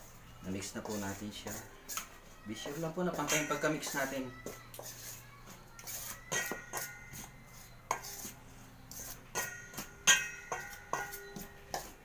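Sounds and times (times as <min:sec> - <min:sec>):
metal utensils scraping steel bowl: 0:00.0 - 0:12.0.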